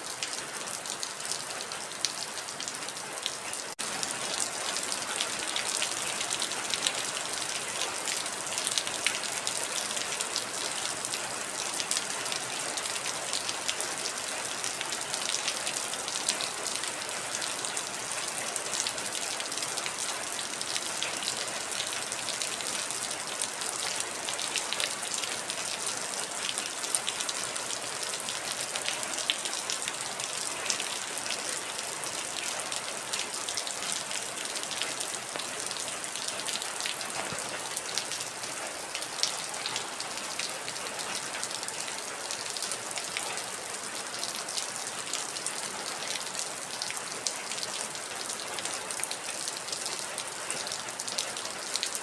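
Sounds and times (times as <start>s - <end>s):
heavy rain pattering: 0.0s - 52.0s.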